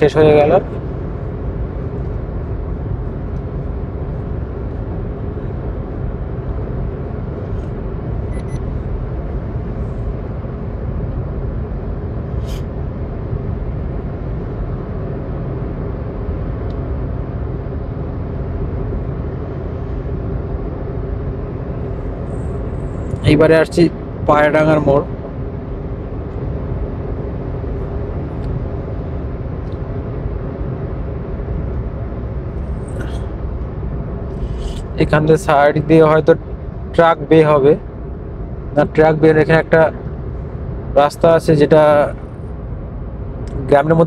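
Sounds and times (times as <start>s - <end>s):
car cabin road drone: 0.0s - 44.0s.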